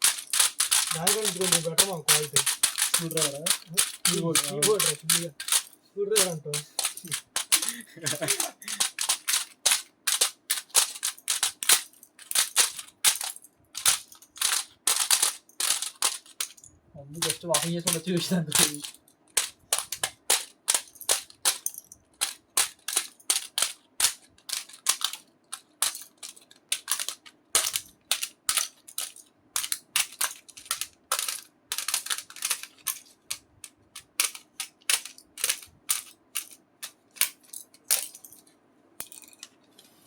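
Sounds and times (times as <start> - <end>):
plastic keyboard keys clicking: 0.0 - 39.7.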